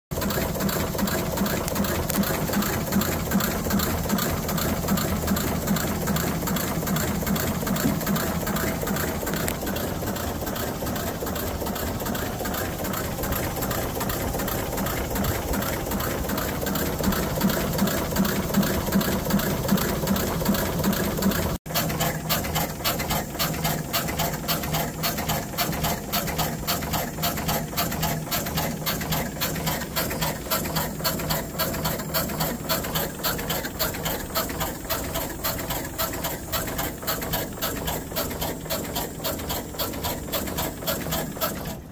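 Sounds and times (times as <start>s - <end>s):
steam engine beating: 0.1s - 41.9s.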